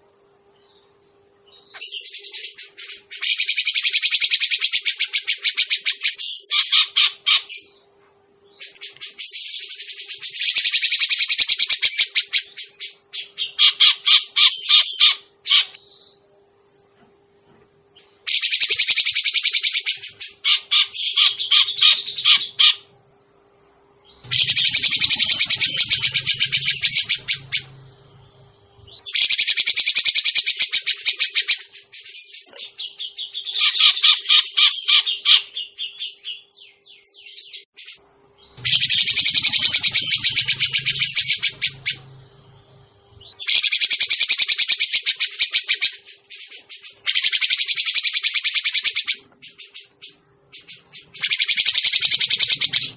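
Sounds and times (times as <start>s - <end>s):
bird harsh chattering calls: 1.6s - 7.8s, 8.6s - 15.8s, 18.3s - 23.0s, 24.1s - 36.4s, 37.8s - 52.9s.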